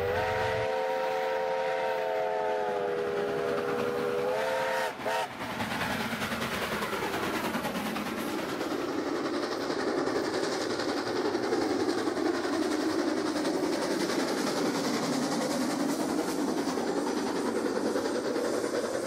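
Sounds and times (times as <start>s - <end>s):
steam train passing: 0.0s - 19.0s
wheels running on rails: 2.7s - 19.0s.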